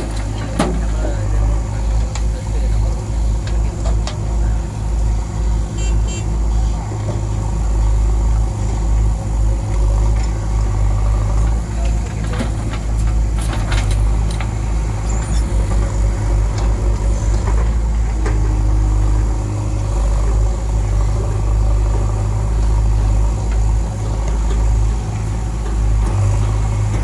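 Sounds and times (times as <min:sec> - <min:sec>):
diesel engines rumbling: 0:00.0 - 0:27.0
steady whine: 0:00.0 - 0:27.0.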